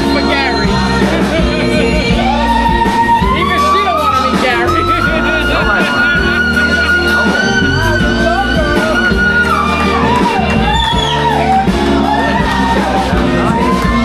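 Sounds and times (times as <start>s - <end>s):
steady musical accompaniment: 0.0s - 14.0s.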